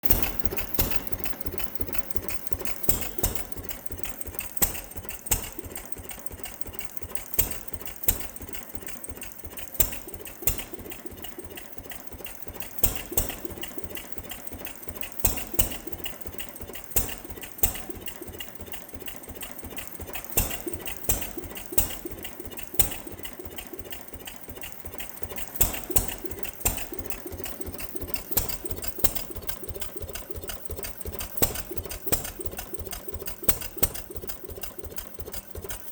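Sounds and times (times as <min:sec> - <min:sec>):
stationary engine clicking: 0:00.0 - 0:35.9.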